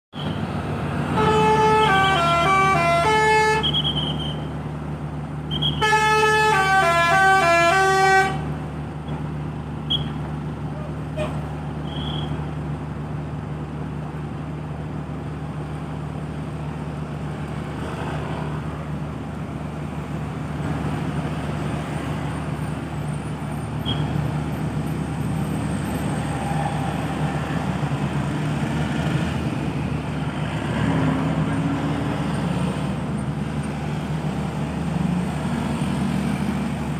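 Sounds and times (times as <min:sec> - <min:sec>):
road traffic noise: 0:00.0 - 0:36.9
bus engine running: 0:00.2 - 0:36.9.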